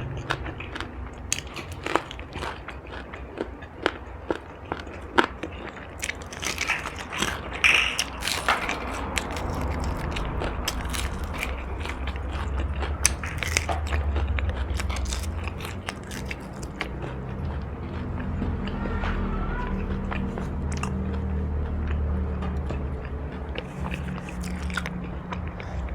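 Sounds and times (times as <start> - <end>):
chewing crunchy food: 0.0 - 25.9.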